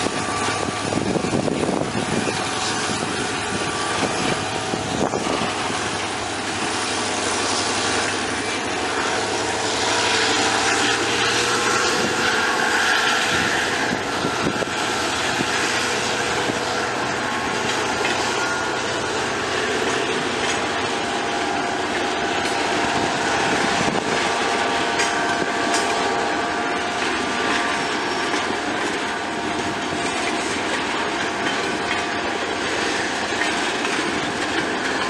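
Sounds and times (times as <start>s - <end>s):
locomotive engine drone: 0.0s - 35.0s
train running noise: 0.0s - 35.0s.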